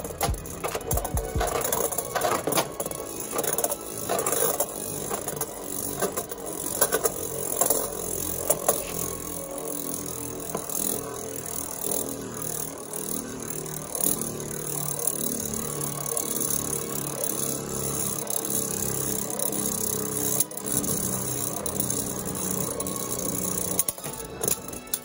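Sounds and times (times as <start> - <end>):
spinning tops clicking: 0.0 - 25.0
spinning tops whirring scrape: 0.0 - 25.0.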